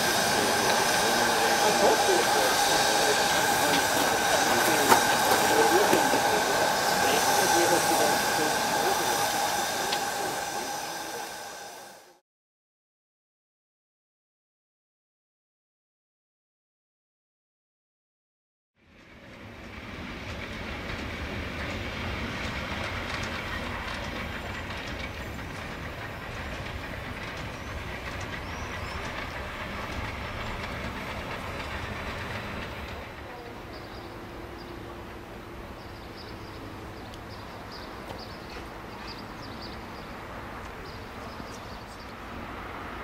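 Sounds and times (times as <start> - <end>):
train rolling on rails: 0.0 - 12.2, 18.8 - 43.0.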